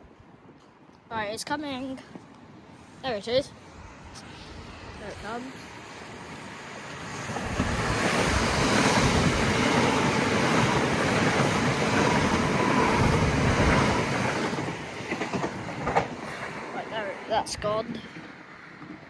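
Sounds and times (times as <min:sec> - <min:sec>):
train passing rushing: 0:02.8 - 0:19.0.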